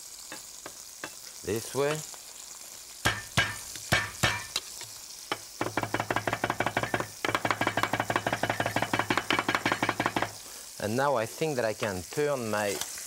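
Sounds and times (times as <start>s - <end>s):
meat sizzling in frying pan: 0.0s - 13.0s.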